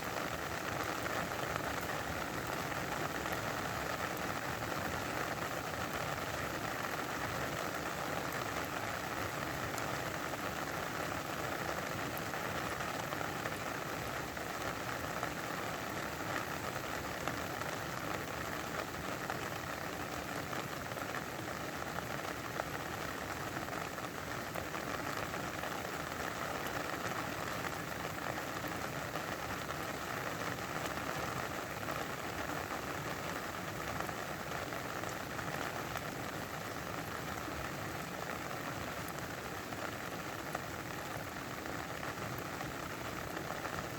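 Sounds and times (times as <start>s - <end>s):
rain pattering on a surface: 0.0s - 43.9s.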